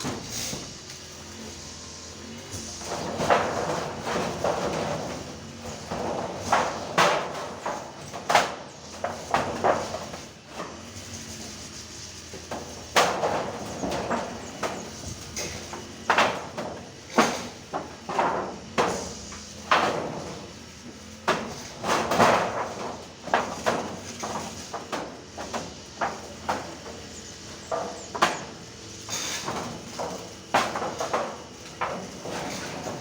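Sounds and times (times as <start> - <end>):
construction knocks and clatters: 0.0 - 33.0.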